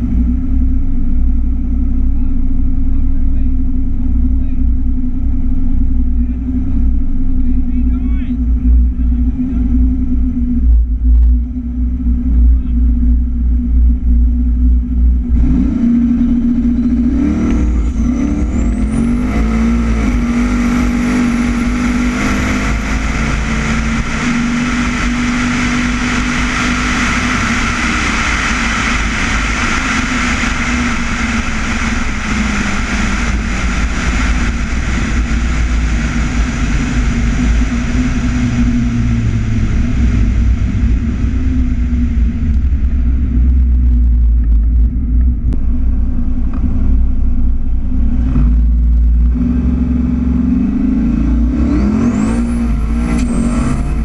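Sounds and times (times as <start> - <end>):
vee eight engine revving: 0.0 - 54.0.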